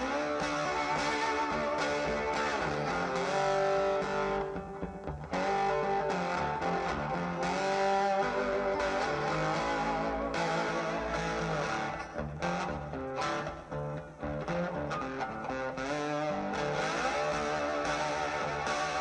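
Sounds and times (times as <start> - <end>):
electric guitar music over speaker: 0.0 - 19.0.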